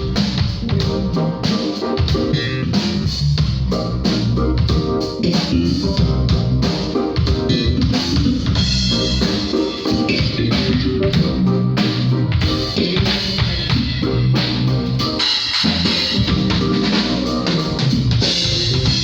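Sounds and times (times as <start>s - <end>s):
bass guitar: 0.0s - 19.0s
drum kit: 0.0s - 19.0s.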